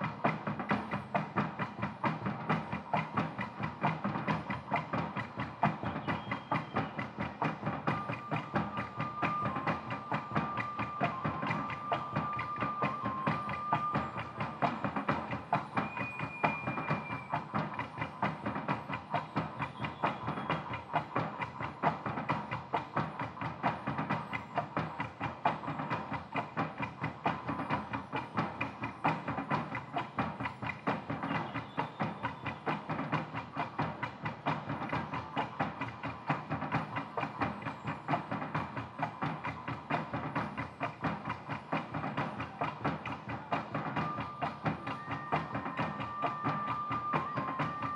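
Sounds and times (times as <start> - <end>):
fast percussion rhythm: 0.0 - 47.9.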